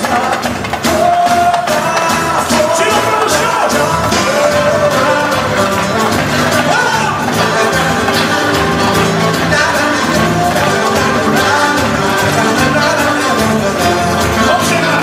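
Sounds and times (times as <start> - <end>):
samba music with vocals: 0.0 - 15.0.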